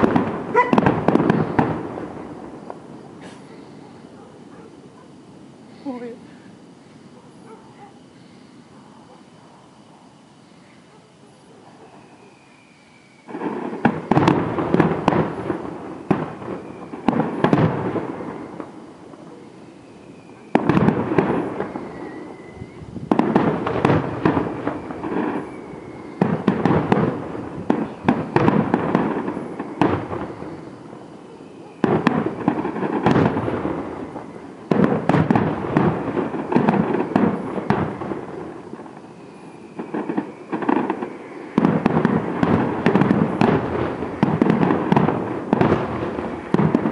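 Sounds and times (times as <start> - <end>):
firework bangs and crackling: 0.0 - 7.2, 13.2 - 46.9.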